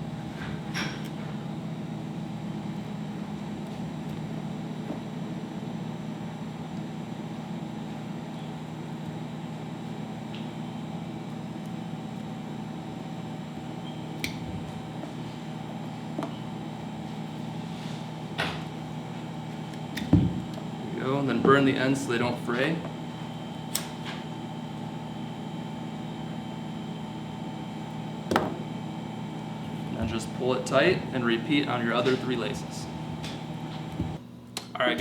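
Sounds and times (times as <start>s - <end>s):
room ventilation hum: 0.0s - 35.0s.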